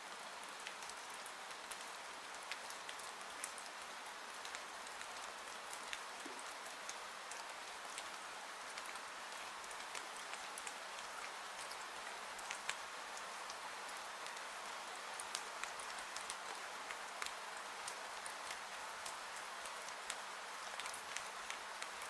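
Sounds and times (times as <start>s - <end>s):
rain hissing against a window: 0.0s - 22.0s.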